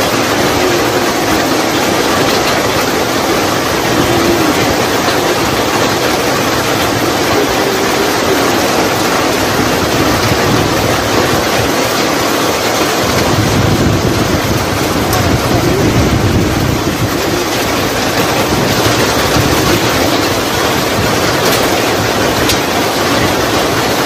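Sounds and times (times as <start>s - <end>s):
rain falling on trees: 0.0s - 24.0s.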